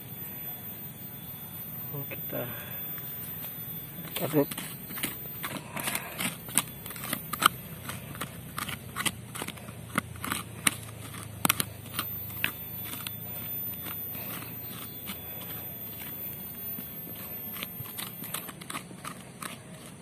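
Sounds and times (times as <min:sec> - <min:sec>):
hand scraping soil and granules: 0:01.9 - 0:20.0.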